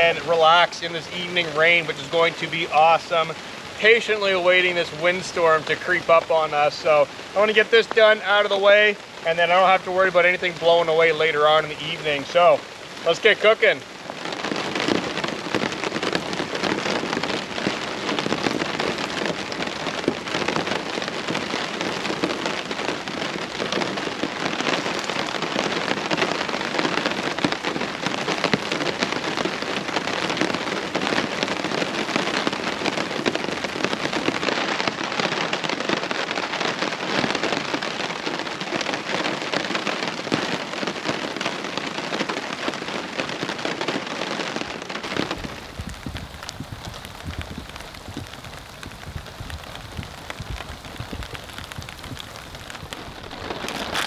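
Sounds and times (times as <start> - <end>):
rain pattering on a tarp: 0.0 - 54.0.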